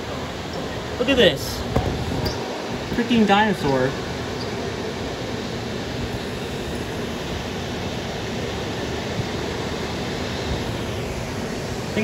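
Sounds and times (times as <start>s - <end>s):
indoor hall background noise: 0.0s - 12.0s.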